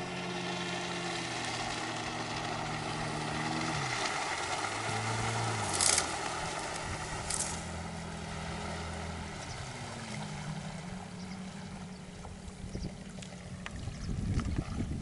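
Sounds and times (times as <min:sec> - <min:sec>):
outboard engine running: 0:00.0 - 0:15.0.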